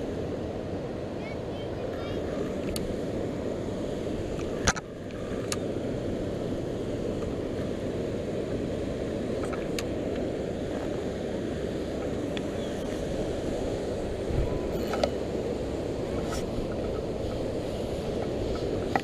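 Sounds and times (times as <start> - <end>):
churning water rushing: 0.0 - 19.0.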